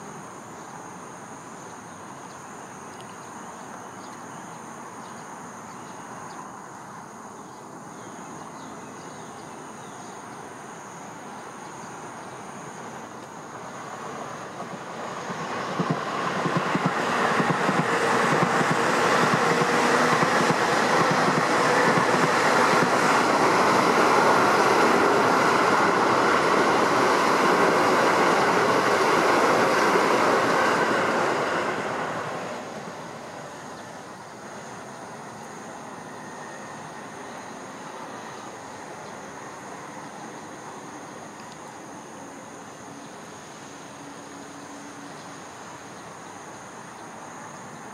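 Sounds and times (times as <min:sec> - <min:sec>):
electric train passing: 0:06.0 - 0:47.9.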